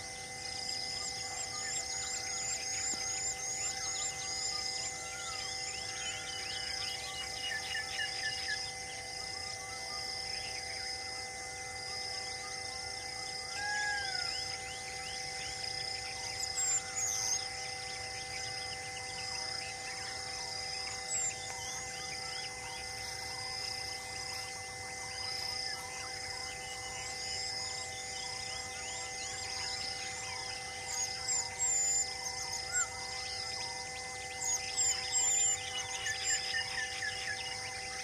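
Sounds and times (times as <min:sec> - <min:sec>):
insect trilling in pulses: 0:00.0 - 0:38.0
insects buzzing: 0:00.0 - 0:38.0.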